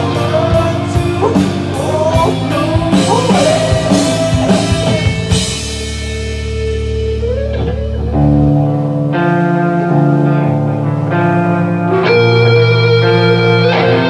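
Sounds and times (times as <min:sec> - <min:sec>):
live rock band: 0:00.0 - 0:14.0
plucked guitar chords: 0:00.0 - 0:14.0.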